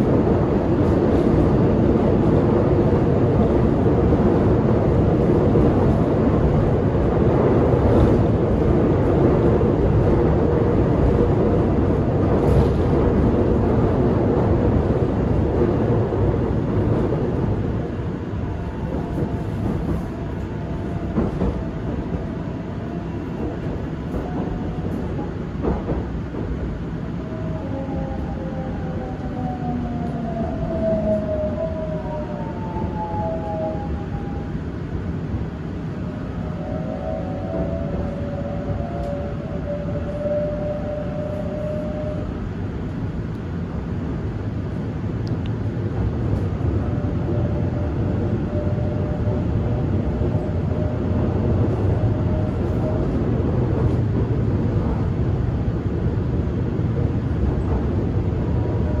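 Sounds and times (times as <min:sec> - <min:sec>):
train rumble inside car: 0:00.0 - 0:59.0.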